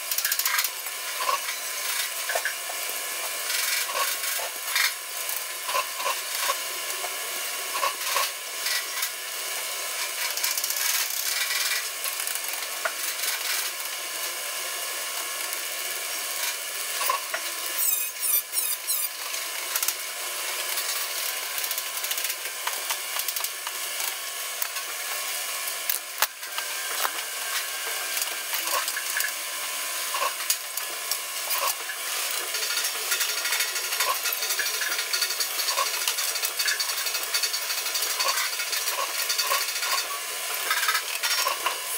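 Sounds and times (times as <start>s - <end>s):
welding hiss: 0.0s - 41.9s.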